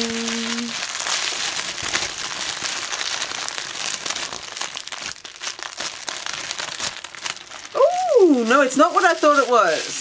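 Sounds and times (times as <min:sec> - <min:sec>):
foil wrapping crinkling: 0:00.0 - 0:10.0.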